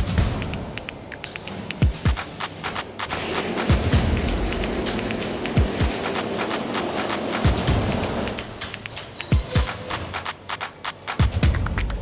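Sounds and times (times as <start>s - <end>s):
electronic music with a beat: 0.0s - 12.0s.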